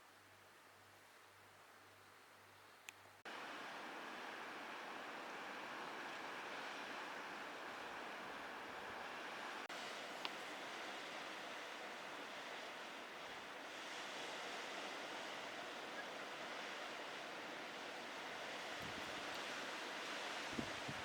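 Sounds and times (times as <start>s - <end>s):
ocean surf rushing: 3.3s - 21.0s.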